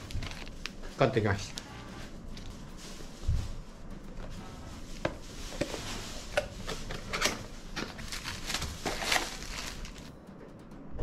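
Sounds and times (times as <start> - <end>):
plastic packaging rustling: 0.0 - 10.1.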